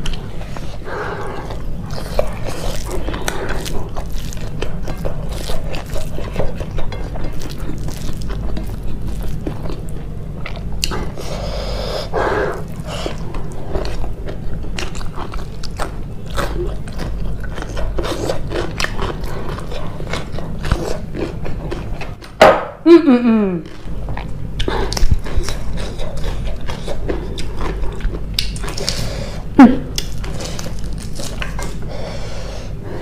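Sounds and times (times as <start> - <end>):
person biting and chewing food: 0.0 - 22.4, 23.7 - 31.9
steady low hum: 0.0 - 33.0.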